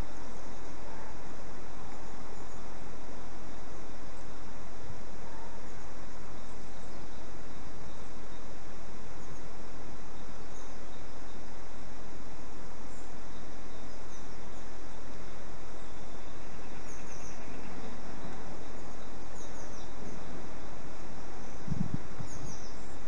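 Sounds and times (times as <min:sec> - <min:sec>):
small birds chirping: 0:00.0 - 0:23.0
steady background hiss: 0:00.0 - 0:23.0.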